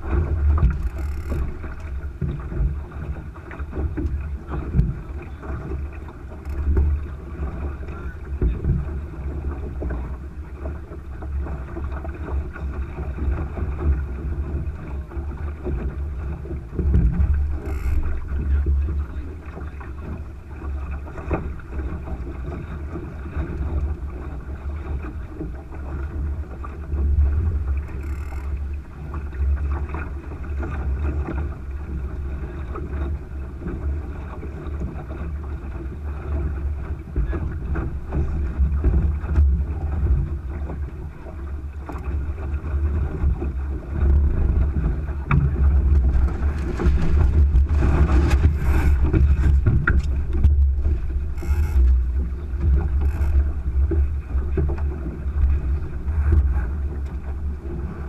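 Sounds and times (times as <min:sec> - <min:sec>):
hull rushing through water: 0:00.0 - 0:58.0
wind buffeting microphone: 0:00.0 - 0:58.0.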